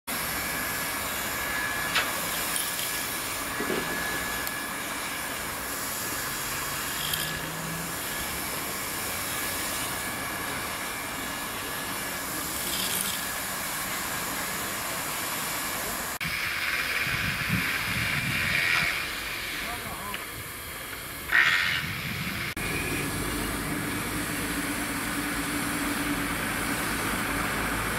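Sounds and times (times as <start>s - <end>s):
hot-air welder hiss and whine: 0.1s - 27.9s.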